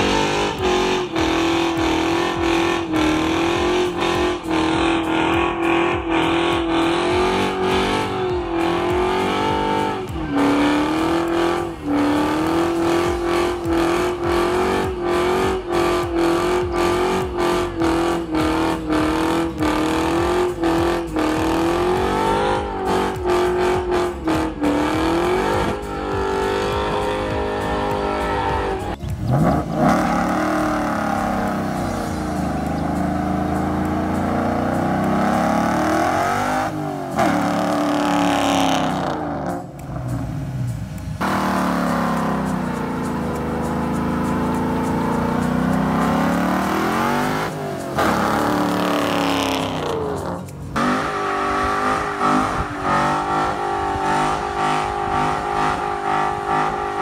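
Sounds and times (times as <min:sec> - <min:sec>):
loud car engine revving: 0:00.0 - 0:57.0.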